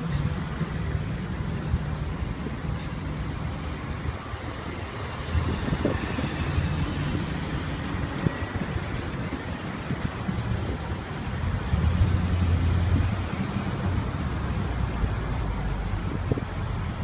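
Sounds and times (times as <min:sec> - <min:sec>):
road traffic: 0:00.0 - 0:17.0
wind rumbling on microphone: 0:00.0 - 0:17.0.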